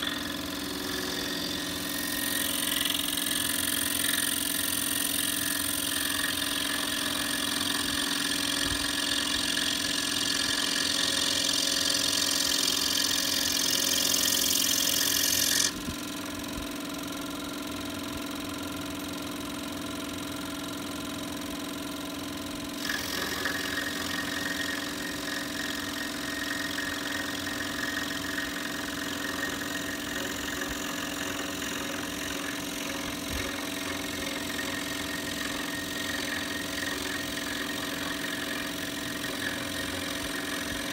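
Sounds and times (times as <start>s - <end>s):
saw blade rasping through wood: 0.0s - 15.9s, 22.7s - 40.9s
scroll saw motor hum: 0.0s - 40.9s.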